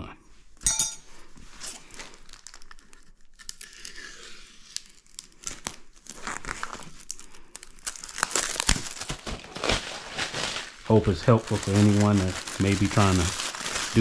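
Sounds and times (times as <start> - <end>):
packaging crinkling and tearing: 1.6 - 14.0.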